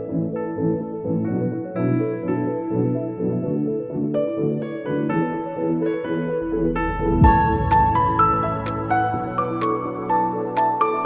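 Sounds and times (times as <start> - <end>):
soft keyboard music: 0.0 - 11.0.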